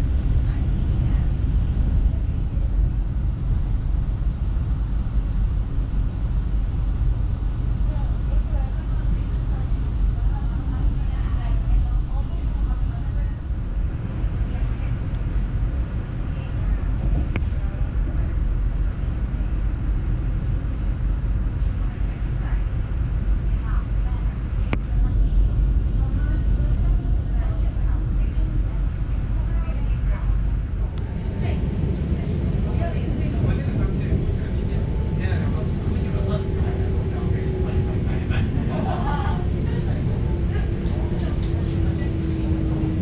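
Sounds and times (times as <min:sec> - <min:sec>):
train rumbling at speed: 0:00.0 - 0:43.0.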